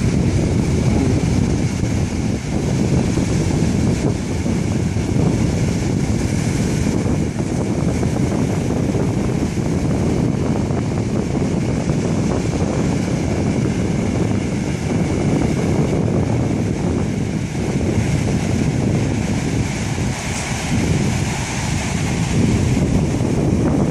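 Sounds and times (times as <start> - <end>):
powerboat engine running: 0.0 - 23.9
water rushing around hull: 0.0 - 23.9
wind buffeting microphone: 0.0 - 23.9.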